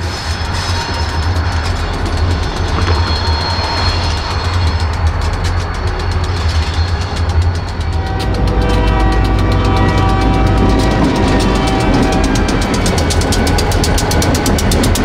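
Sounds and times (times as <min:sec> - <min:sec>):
diesel locomotive engine rumble: 0:00.0 - 0:15.0
train wheels on rails: 0:00.0 - 0:15.0.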